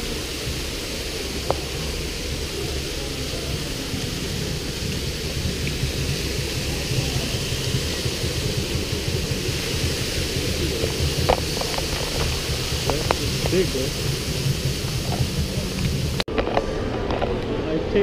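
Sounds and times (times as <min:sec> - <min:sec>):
water cascading down rocks: 0:00.0 - 0:17.4.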